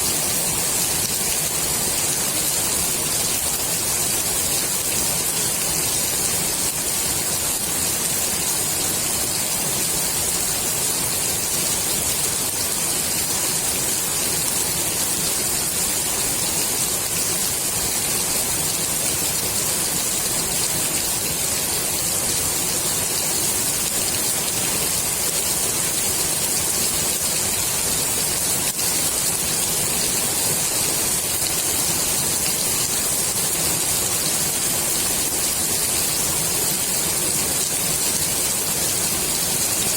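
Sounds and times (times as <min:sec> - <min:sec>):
rain falling on pool water: 0:00.0 - 0:39.9.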